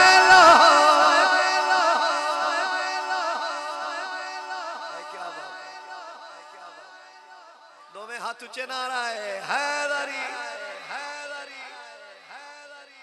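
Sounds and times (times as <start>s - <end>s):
man singing with heavy echo: 0.0s - 13.0s.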